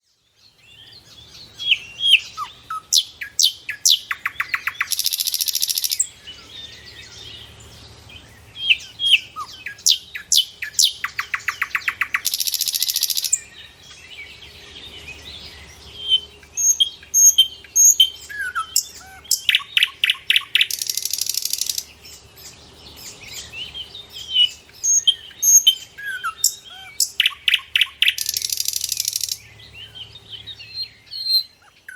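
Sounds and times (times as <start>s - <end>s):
bird chirps and trill: 0.5s - 31.9s.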